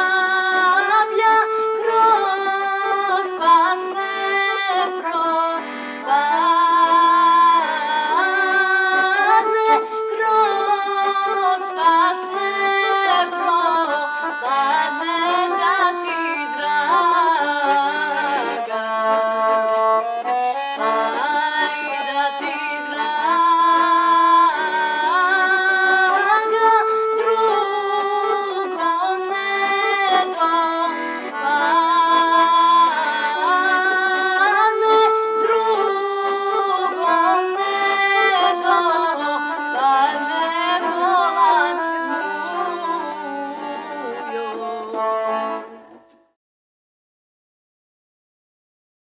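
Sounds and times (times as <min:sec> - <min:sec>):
women singing folk song: 0:00.0 - 0:45.9
piano accordion: 0:00.0 - 0:46.4.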